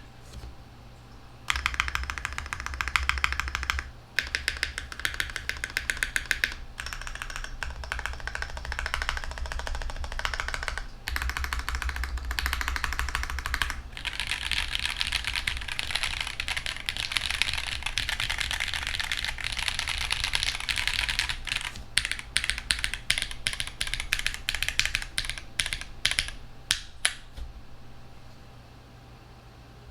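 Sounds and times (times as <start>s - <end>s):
mechanical keyboard typing: 1.5s - 27.4s.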